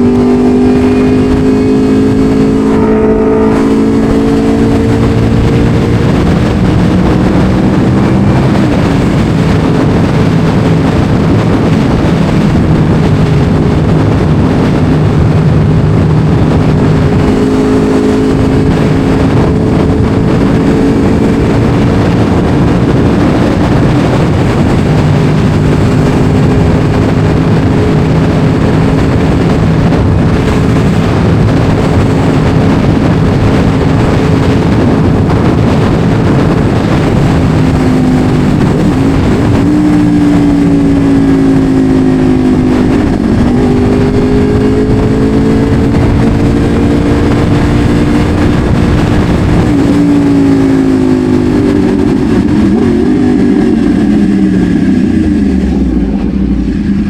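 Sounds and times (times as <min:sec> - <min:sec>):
motorcycle engine running: 0:00.0 - 0:57.0
rushing noise: 0:00.0 - 0:57.0.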